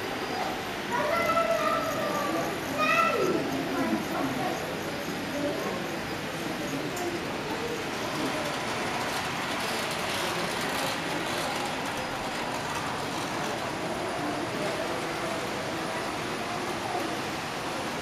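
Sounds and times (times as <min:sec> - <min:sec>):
exhibition hall background noise: 0:00.0 - 0:18.0
faint murmur of distant voices: 0:00.0 - 0:18.0.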